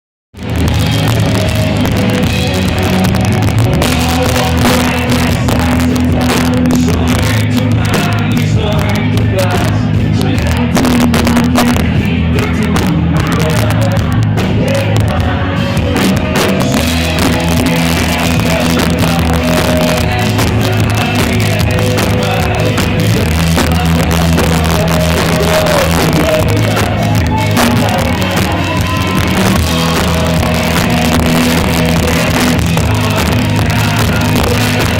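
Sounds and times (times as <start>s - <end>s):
live rock band playing: 0.4s - 34.9s
person singing: 0.4s - 34.9s.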